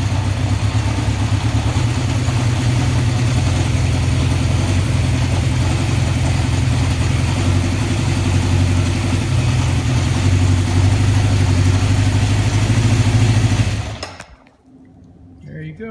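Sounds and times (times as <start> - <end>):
motorcycle engine idling: 0.0 - 14.3.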